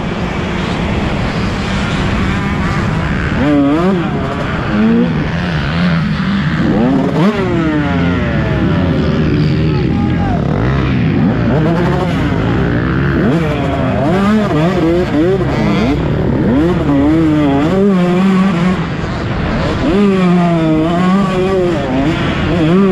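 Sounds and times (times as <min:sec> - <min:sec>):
motocross bikes revving: 0:00.0 - 0:22.9.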